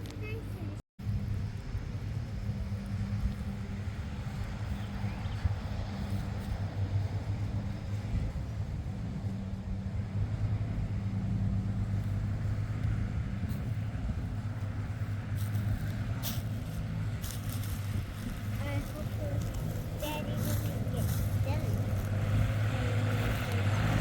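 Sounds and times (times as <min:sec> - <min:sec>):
tractor engine humming: 0:00.0 - 0:24.0.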